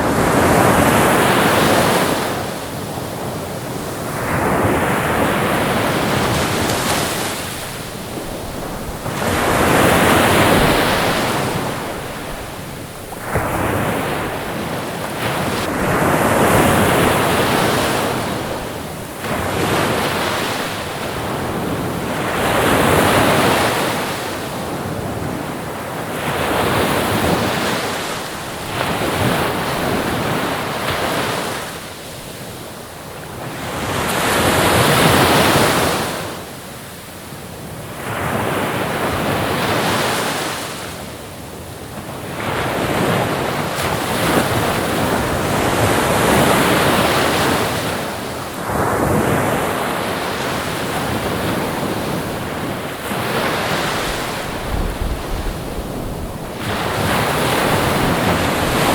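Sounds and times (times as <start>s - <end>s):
ocean waves breaking: 0.0s - 32.4s, 42.0s - 58.9s
wind: 0.0s - 58.9s.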